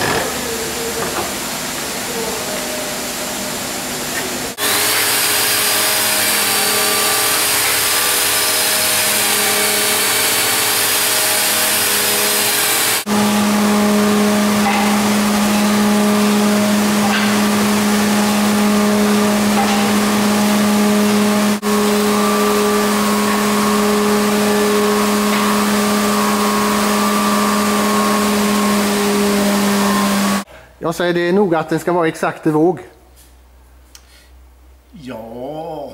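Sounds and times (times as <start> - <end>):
machine motor drone: 0.0 - 30.5.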